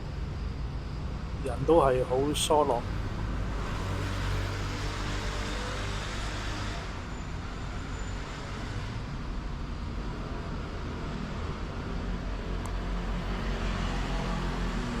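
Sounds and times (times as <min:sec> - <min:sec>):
road noise: 0:00.0 - 0:15.0
vehicles passing: 0:01.4 - 0:15.0.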